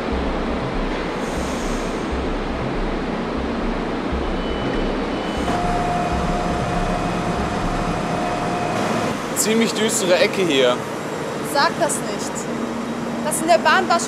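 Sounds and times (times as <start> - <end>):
train noise: 0.0 - 14.0
steady high tone: 0.6 - 14.0.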